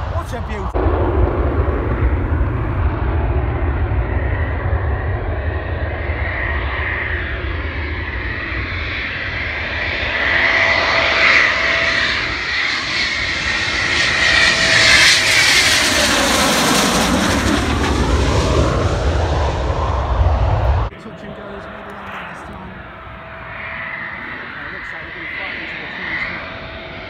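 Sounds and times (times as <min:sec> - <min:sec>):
fighter jet flying overhead: 0:00.0 - 0:27.0.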